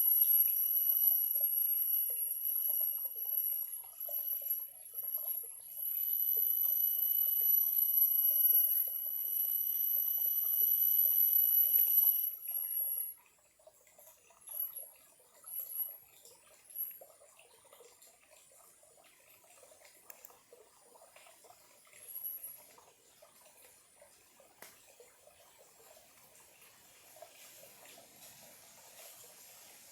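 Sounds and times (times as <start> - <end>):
stream trickling: 0.0 - 29.9.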